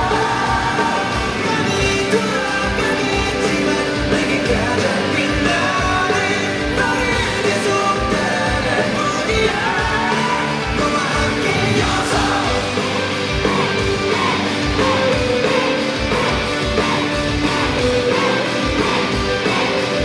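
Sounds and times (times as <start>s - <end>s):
person singing: 0.0s - 20.0s
rock band playing: 0.0s - 20.0s.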